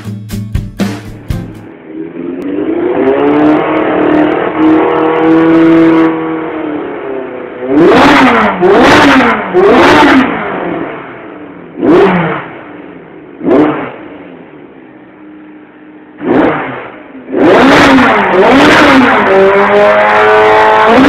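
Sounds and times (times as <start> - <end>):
motorcycle engine revving: 1.6 - 14.7, 16.1 - 21.0.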